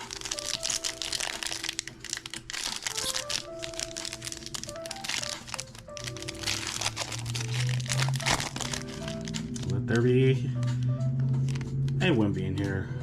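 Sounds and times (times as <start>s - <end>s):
wrapper crinkling: 0.0s - 9.8s, 10.6s - 12.0s
background music: 0.0s - 13.0s.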